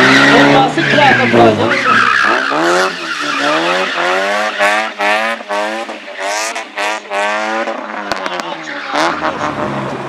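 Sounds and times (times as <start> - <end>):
car engine revving: 0.0 - 10.0
tyres skidding on tarmac: 0.0 - 10.0.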